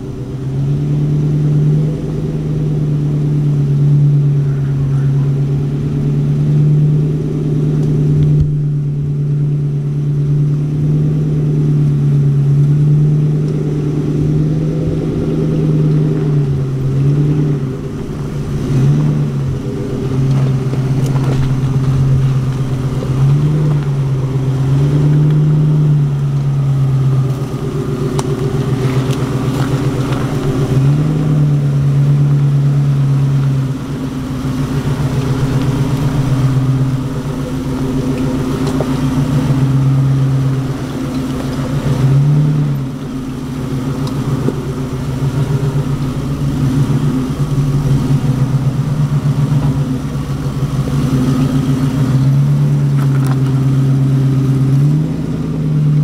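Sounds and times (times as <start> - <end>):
vehicle engine running under load: 0.0 - 56.0.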